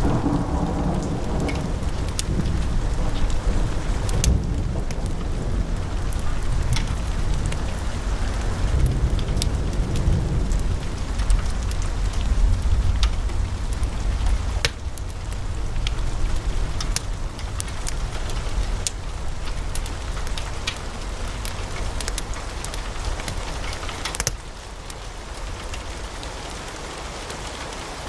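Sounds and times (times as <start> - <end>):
low rumble of flames: 0.0 - 26.9
logs crackling and popping: 0.0 - 27.8.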